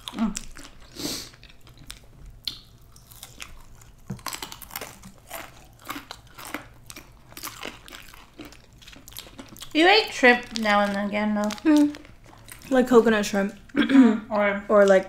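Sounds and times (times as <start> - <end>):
chewing and crunching food: 0.0 - 13.8.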